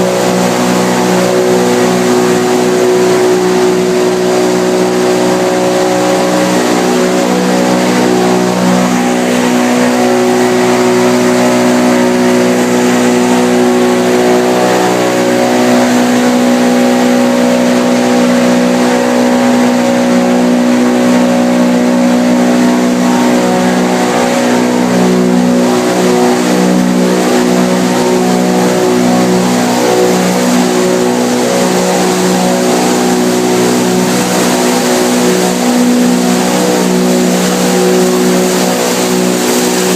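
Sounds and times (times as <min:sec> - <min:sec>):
machine hum: 0:00.0 - 0:39.9.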